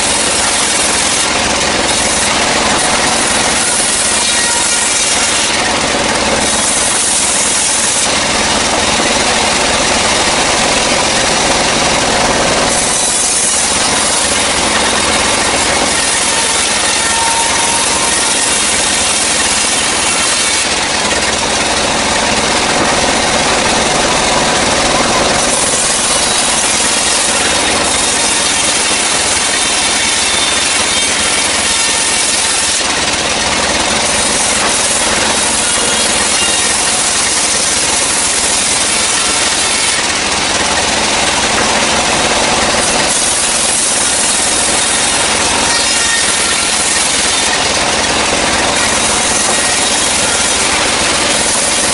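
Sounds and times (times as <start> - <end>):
band saw cutting log: 0.0 - 51.9.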